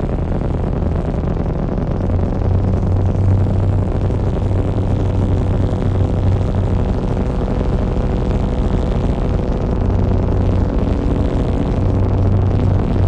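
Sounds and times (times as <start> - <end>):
deep rumbling electronic drone: 0.0 - 13.0.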